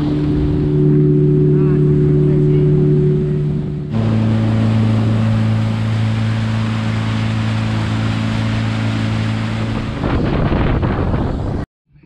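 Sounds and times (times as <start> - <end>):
gusty wind: 0.0 - 11.7
motorboat engine drone: 0.0 - 11.7
rush of boat wake: 0.0 - 11.7.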